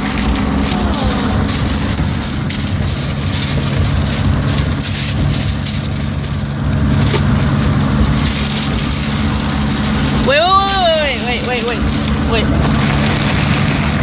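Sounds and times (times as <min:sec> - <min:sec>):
bus engine and road noise: 0:00.0 - 0:14.0
paper and cardboard rustling: 0:00.0 - 0:14.0.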